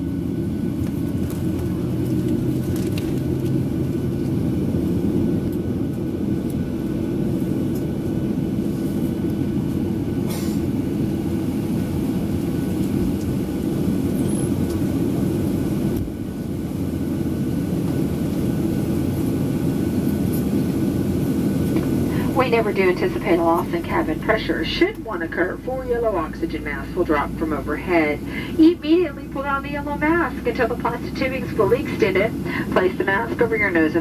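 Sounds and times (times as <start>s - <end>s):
aircraft cabin rumble: 0.0s - 34.0s.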